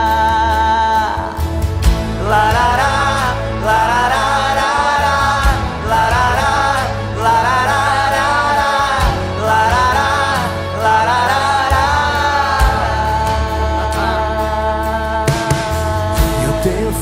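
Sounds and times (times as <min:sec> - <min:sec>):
instrumental worship band music: 0:00.0 - 0:17.0.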